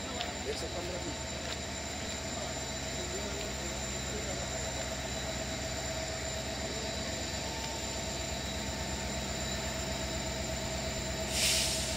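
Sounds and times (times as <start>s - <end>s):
mechanical drone with whining tones: 0.0s - 11.3s.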